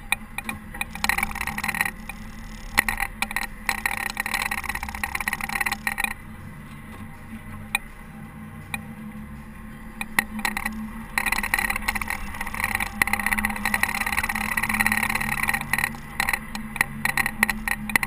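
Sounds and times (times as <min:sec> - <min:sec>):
telehandler engine running: 0:00.0 - 0:18.0
harsh clattering scraping: 0:00.4 - 0:08.1, 0:10.0 - 0:18.0.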